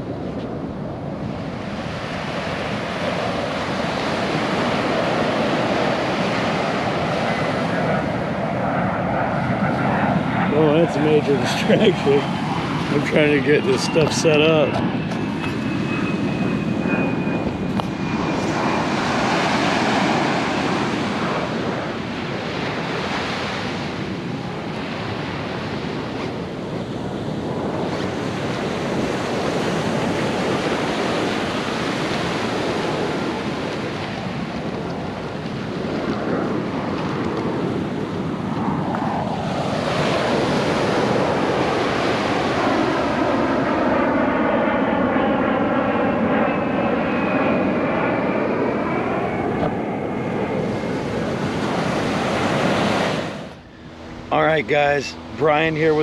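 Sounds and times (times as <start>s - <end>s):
airplane engine drone overhead: 0.0s - 56.0s
wind buffeting microphone: 0.0s - 56.0s
ocean surf washing onto beach: 1.2s - 15.8s, 17.8s - 44.6s, 50.2s - 56.0s.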